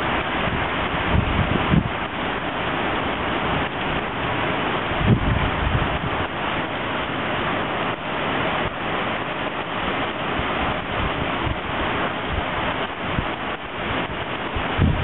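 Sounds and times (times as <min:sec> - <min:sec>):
heavy rain hissing: 0:00.0 - 0:15.0
wind rumbling on microphone: 0:00.0 - 0:15.0.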